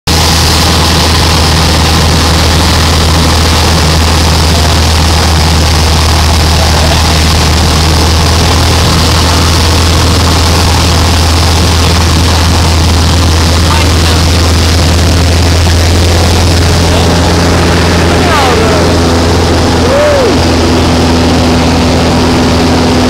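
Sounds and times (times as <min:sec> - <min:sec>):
rushing air: 0:00.1 - 0:23.0
small aircraft engine and propeller: 0:00.1 - 0:23.0.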